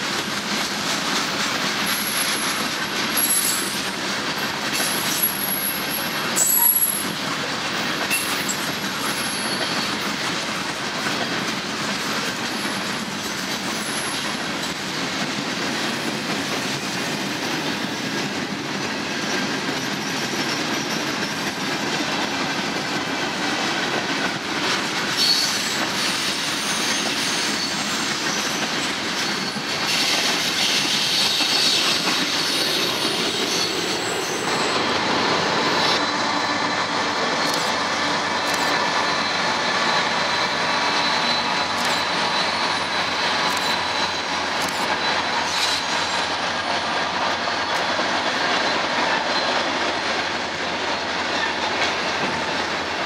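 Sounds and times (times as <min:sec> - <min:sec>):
freight train wheels rumbling: 0:00.0 - 0:53.0
train clatter: 0:00.0 - 0:53.0.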